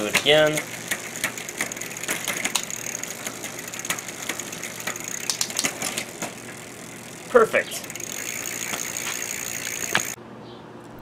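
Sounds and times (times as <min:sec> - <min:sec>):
bicycle chain clicking: 0:00.0 - 0:10.2.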